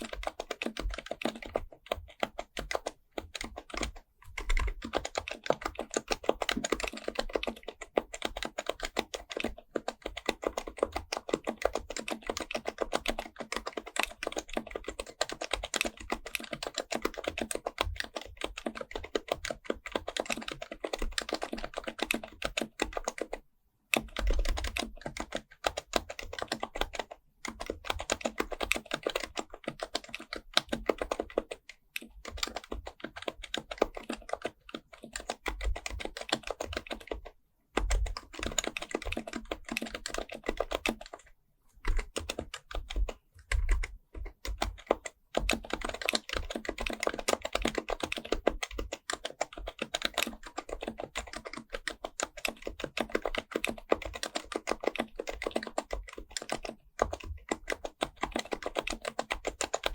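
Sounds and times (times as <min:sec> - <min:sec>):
soft keyboard typing: 0:00.0 - 0:59.9.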